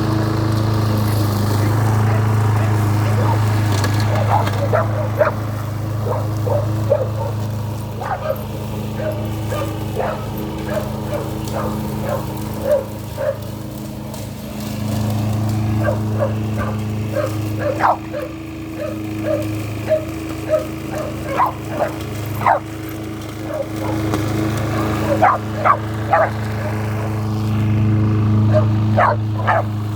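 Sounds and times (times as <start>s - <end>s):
lawnmower engine humming: 0.0s - 29.9s
dog barking and yipping: 1.5s - 13.6s, 15.7s - 27.0s, 28.5s - 29.8s.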